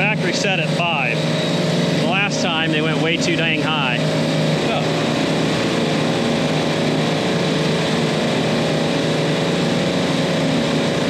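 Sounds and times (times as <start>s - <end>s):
refrigeration compressors droning: 0.0s - 11.0s.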